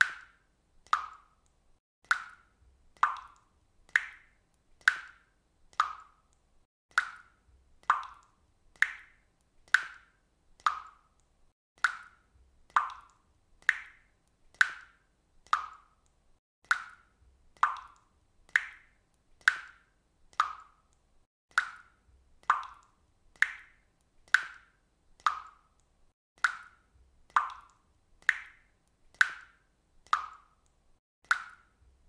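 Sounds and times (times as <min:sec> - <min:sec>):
water dripping from faucet: 0:00.0 - 0:32.0.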